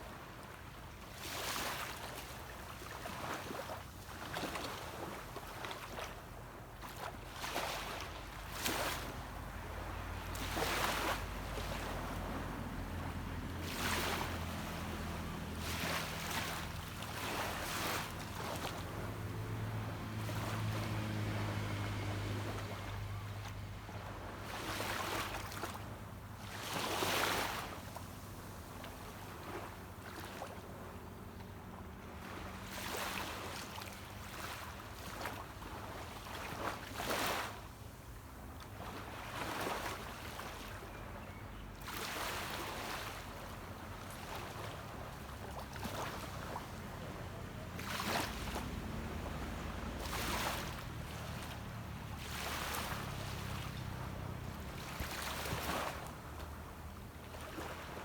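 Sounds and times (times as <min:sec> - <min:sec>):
small waves washing onto beach: 0:00.0 - 0:41.2, 0:41.8 - 0:58.0
distant boat engine hum: 0:00.0 - 0:58.0.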